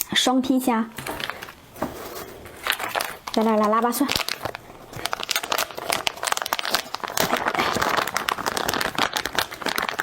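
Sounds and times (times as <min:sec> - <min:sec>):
food crackling while eaten: 0:00.9 - 0:10.0.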